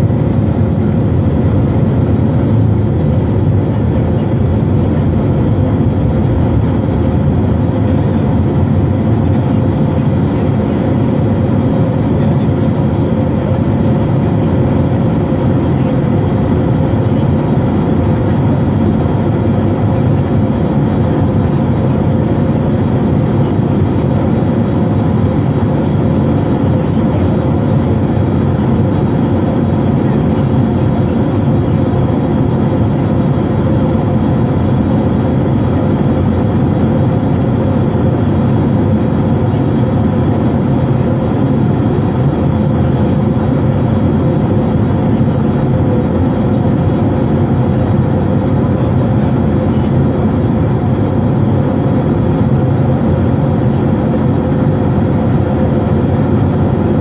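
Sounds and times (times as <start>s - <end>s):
jet engine roar in cabin: 0.0s - 57.0s.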